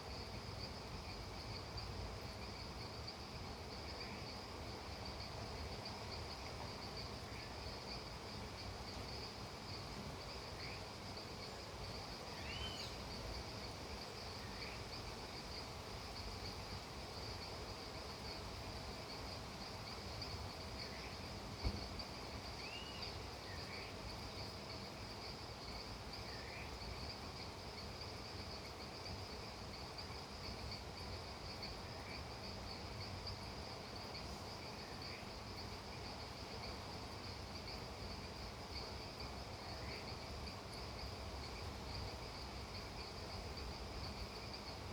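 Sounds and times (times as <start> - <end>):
crickets trilling: 0.0 - 44.9.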